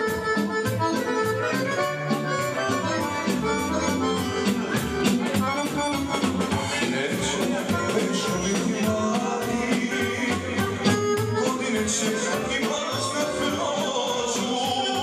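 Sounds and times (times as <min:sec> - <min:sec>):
accordion melody: 0:00.0 - 0:15.0
drums: 0:00.0 - 0:15.0
guitars: 0:00.0 - 0:15.0.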